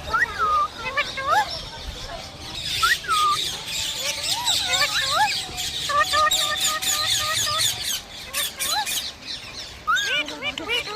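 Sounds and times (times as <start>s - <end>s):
parrots chattering and squawking: 0.0s - 10.9s.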